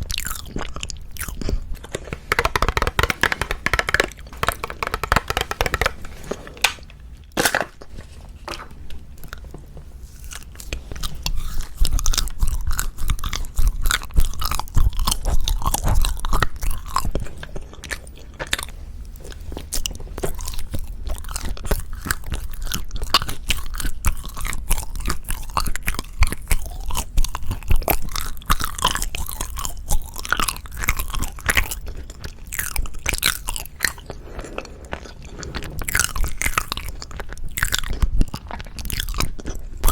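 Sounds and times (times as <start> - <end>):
close chewing and biting: 0.0 - 7.5, 10.1 - 39.9.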